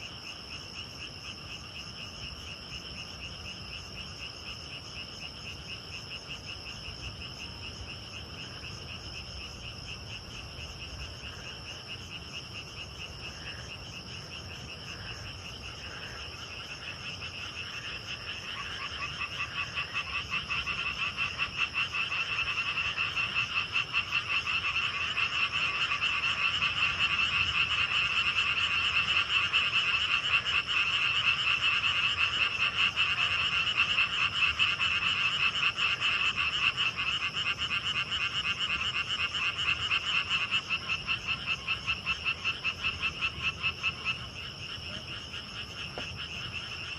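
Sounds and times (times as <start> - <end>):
frogs croaking: 0.0 - 46.9
insects trilling: 0.0 - 46.9.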